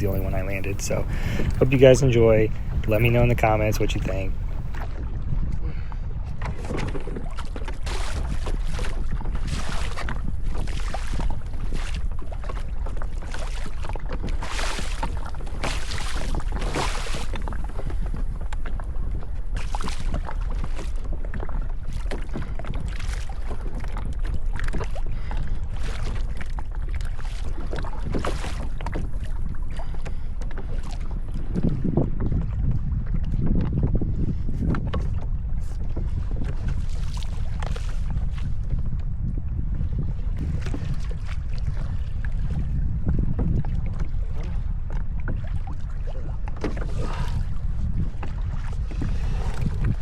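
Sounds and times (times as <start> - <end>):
water splashing against kayak hull: 0.0 - 5.1, 6.3 - 32.4, 34.6 - 50.0
wind buffeting microphone: 0.0 - 50.0.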